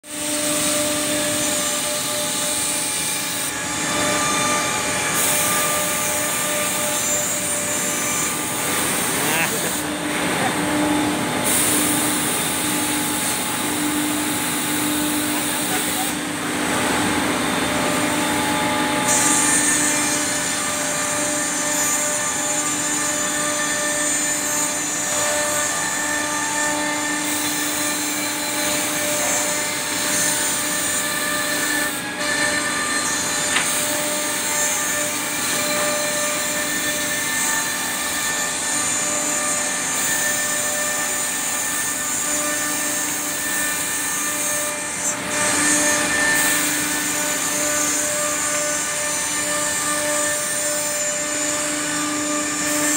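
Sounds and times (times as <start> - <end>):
woodworking machine cutting: 0.1 - 52.9.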